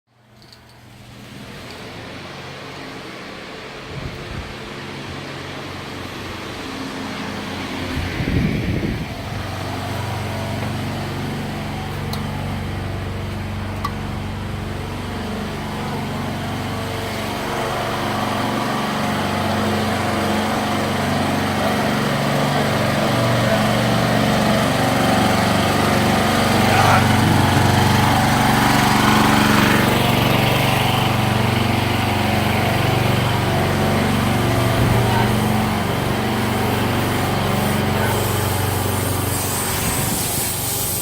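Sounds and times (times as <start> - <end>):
engine rumble: 0.1 - 41.0
engine running: 0.1 - 41.0.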